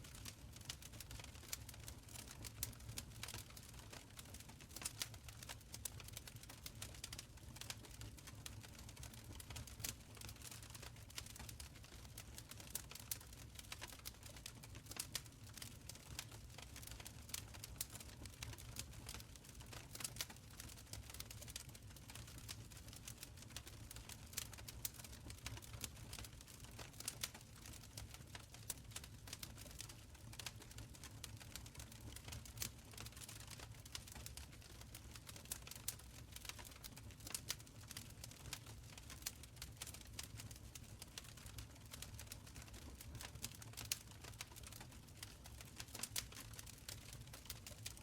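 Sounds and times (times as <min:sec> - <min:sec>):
wood fire crackling: 0:00.1 - 0:48.0.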